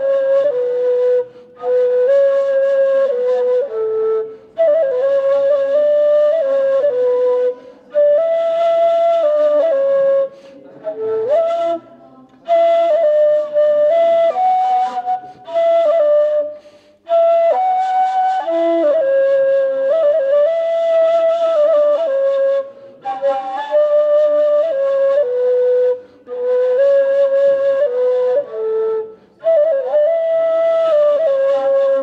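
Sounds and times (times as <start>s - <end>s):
reed flute solo melody: 0.0s - 32.0s.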